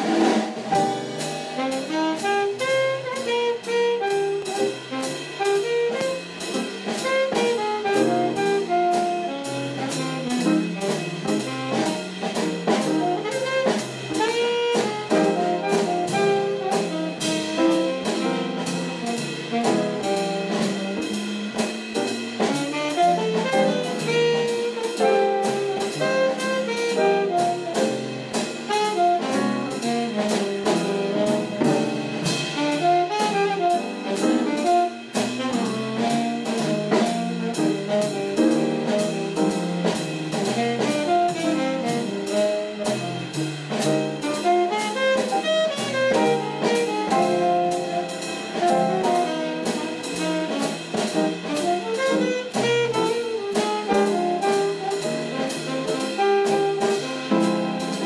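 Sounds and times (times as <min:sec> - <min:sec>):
drum kit steady beat: 0:00.0 - 0:58.0
jazz band playing: 0:00.0 - 0:58.0
saxophone and brass: 0:00.0 - 0:58.0.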